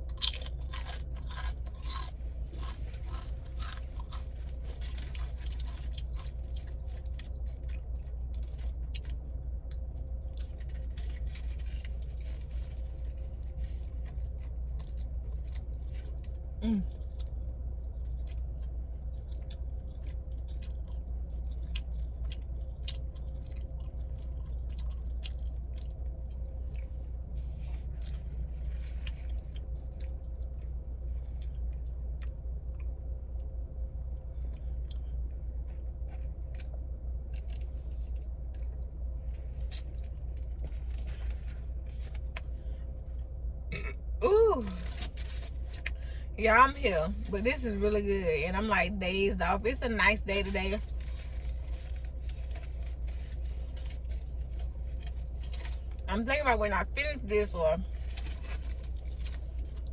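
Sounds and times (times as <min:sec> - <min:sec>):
chewing sandwich with crunchy crackles: 0:00.0 - 0:46.3, 0:50.4 - 0:56.1, 0:57.8 - 0:59.9
steady low hum: 0:00.0 - 0:59.9.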